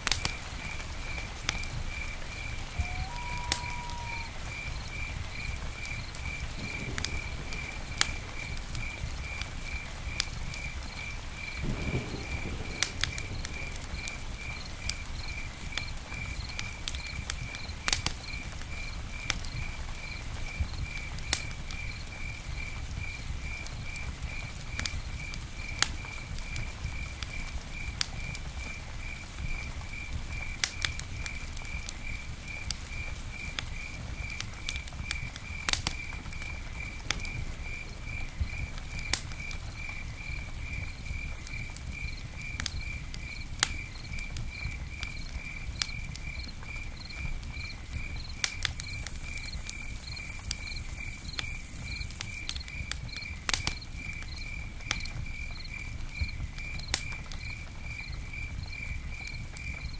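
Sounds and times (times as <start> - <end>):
campfire crackling and popping: 0.0 - 59.9
cricket chirping: 0.1 - 59.9.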